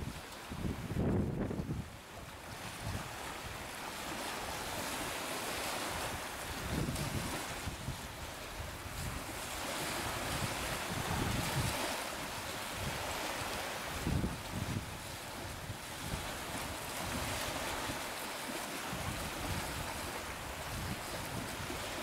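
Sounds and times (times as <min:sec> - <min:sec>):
waves on choppy water: 0:00.0 - 0:22.0
wind buffeting microphone: 0:00.0 - 0:22.0.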